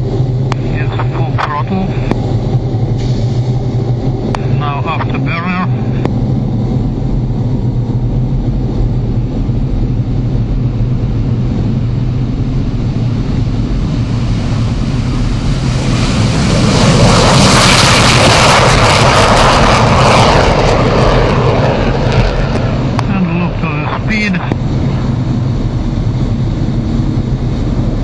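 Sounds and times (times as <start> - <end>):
jet engines at full afterburner: 0.0 - 28.0
loud rushing jet noise: 0.0 - 28.0.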